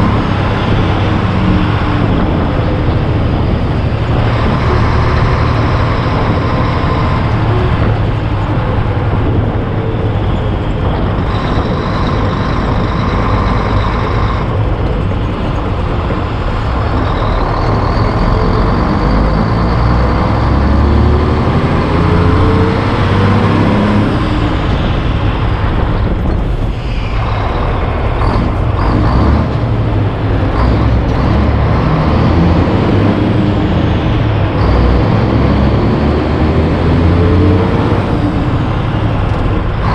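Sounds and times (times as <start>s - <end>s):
diesel truck engine: 0.0s - 39.9s
road noise: 0.0s - 39.9s.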